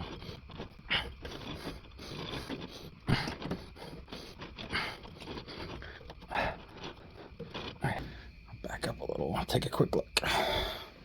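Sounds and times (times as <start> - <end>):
rubber tire scraping on wheel: 0.0 - 9.0.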